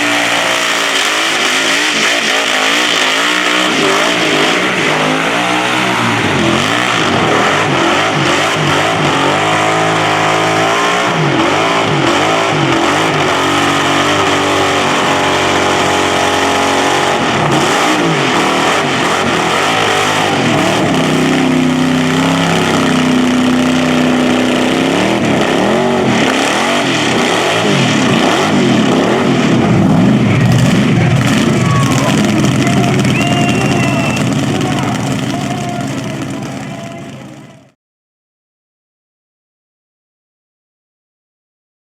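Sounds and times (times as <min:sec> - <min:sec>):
car engine revving: 0:00.0 - 0:37.8.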